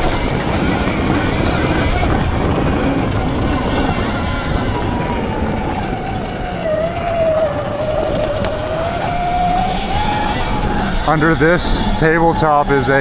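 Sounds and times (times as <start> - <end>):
electric dirt bike motor whining: 0.0 - 13.0.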